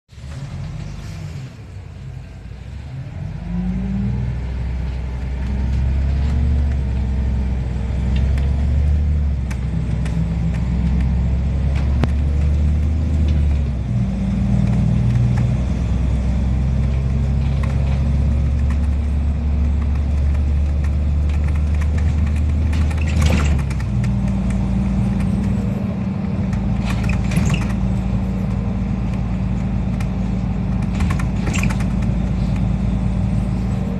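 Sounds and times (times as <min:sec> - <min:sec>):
bus body rattling: 0:00.1 - 0:01.8, 0:04.8 - 0:33.9
bus engine accelerating: 0:00.1 - 0:33.9.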